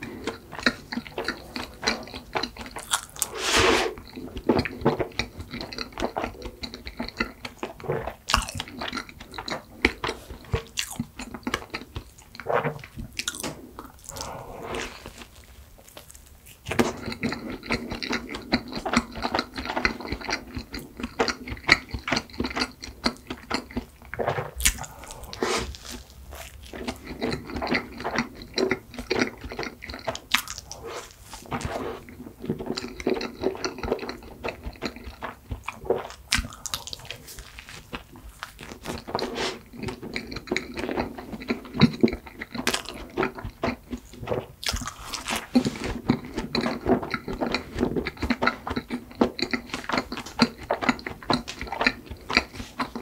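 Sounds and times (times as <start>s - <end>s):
chewing crisp pastry: 0.0s - 53.0s.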